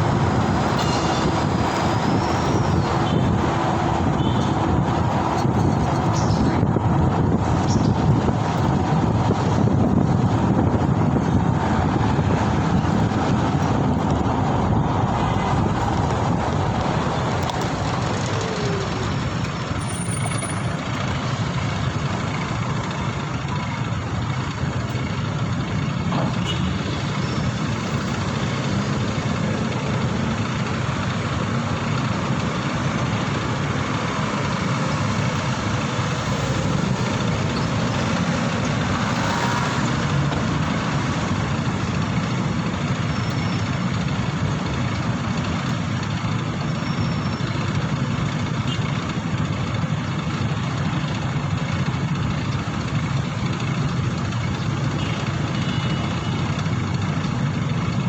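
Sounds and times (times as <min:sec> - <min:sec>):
motorcycle engine: 0:00.0 - 0:58.0
road and wind rush: 0:00.0 - 0:58.0
traffic noise: 0:00.0 - 0:58.0.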